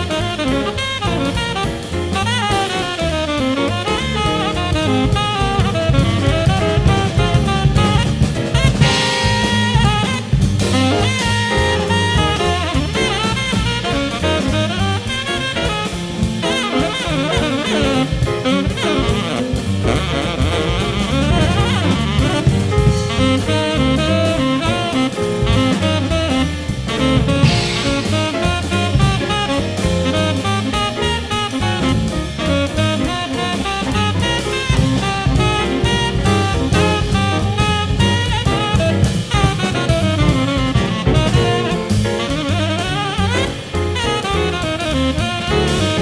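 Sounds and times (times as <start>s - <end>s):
drum kit with cymbals: 0.0s - 46.0s
piano: 0.0s - 46.0s
saxophone: 0.0s - 46.0s.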